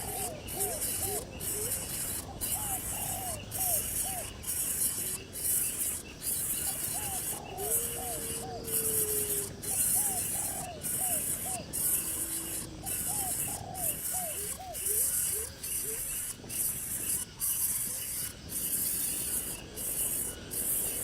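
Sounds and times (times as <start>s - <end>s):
pulsing insect-like hissing drone: 0.0s - 21.0s.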